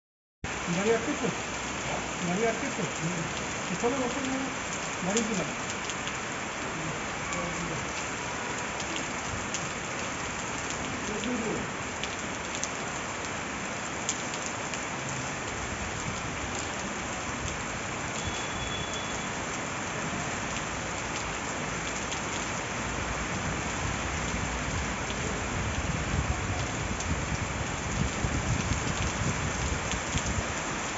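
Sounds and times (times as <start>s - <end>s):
heavy rain pouring: 0.5s - 30.9s
raindrops ticking on surfaces: 0.5s - 30.9s.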